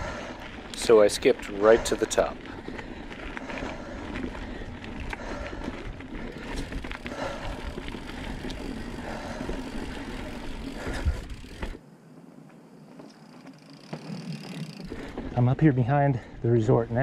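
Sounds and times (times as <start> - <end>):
bike tyres on dirt: 0.0 - 17.0.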